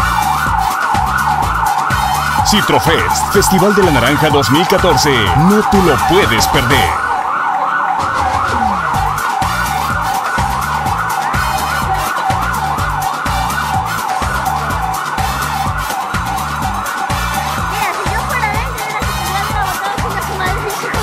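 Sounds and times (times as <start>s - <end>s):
electronic beat with pulsing bass: 0.0s - 7.2s, 8.0s - 21.0s
fast yelp siren: 0.0s - 21.0s.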